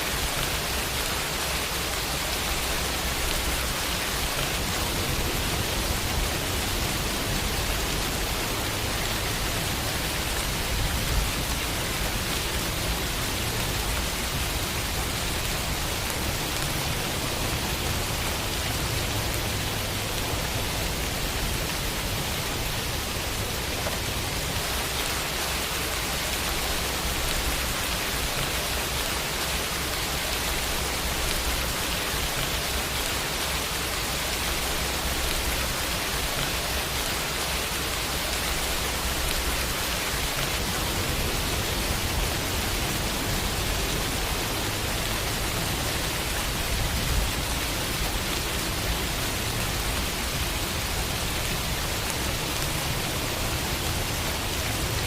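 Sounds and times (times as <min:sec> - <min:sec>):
rain on a window: 0:00.0 - 0:55.0.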